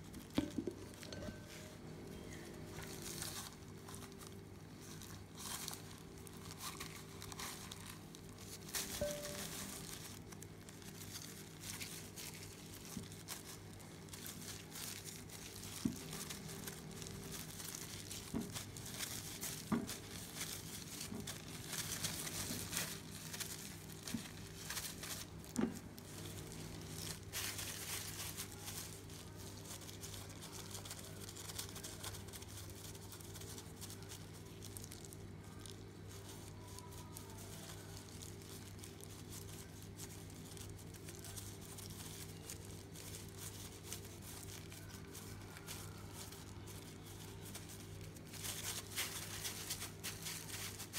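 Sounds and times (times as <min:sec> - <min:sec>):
plastic gloves crinkling: 0:00.0 - 0:50.9.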